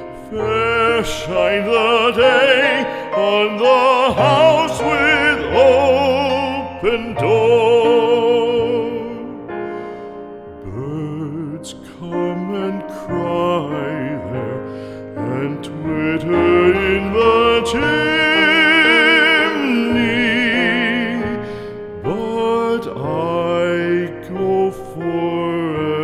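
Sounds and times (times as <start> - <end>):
slow tender melody with vibrato: 0.0 - 26.0.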